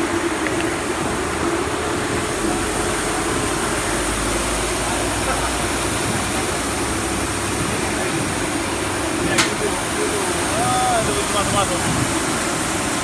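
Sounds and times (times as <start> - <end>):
grain dryer droning: 0.0 - 13.0.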